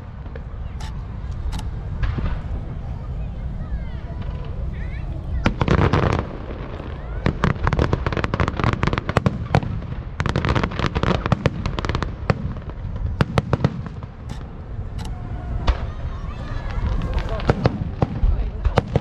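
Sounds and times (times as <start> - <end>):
low rumble: 0.0 - 8.1, 11.4 - 19.0
fireworks cracks and bangs: 0.0 - 19.0.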